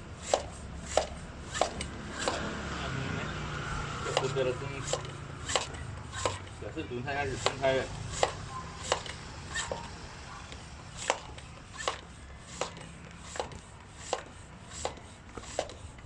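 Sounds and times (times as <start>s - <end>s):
bicycle hand pump clicking: 0.2s - 2.4s, 4.0s - 6.6s, 7.3s - 9.9s, 10.5s - 16.0s.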